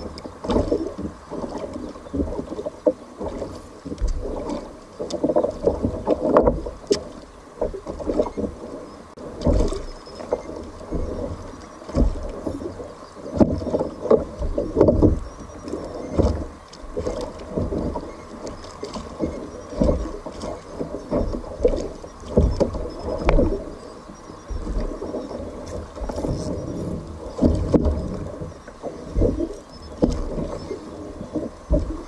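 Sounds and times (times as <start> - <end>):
water slapping against kayak hull: 0.0 - 32.0.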